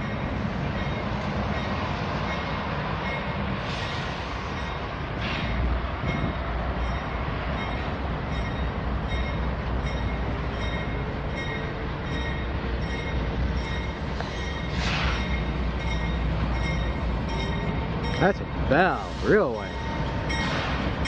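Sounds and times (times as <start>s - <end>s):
locomotive bell ringing: 0.0s - 3.6s, 4.5s - 21.0s
diesel locomotive rumbling: 0.0s - 21.0s.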